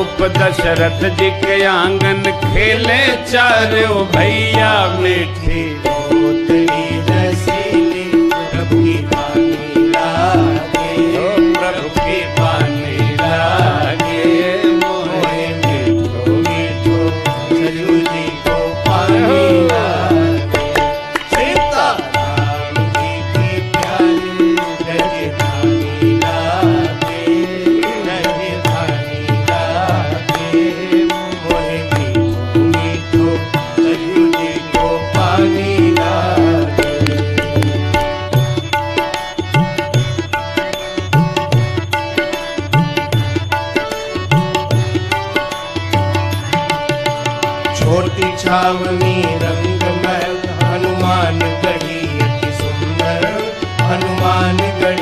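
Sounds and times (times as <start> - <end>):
devotional song melody: 0.0 - 55.0
repeating drum rhythm: 0.0 - 55.0.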